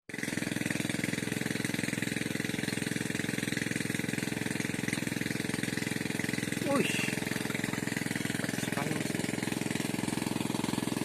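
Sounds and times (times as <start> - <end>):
small engine chugging: 0.1 - 11.0.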